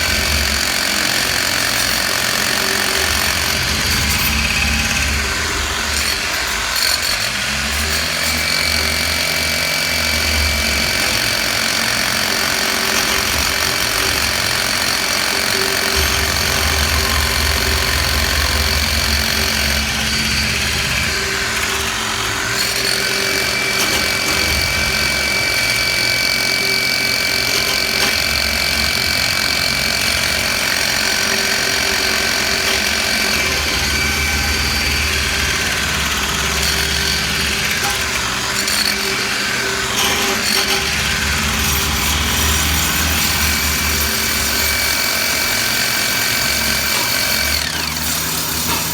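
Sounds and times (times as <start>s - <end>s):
hammer drill whining: 0.0s - 48.9s.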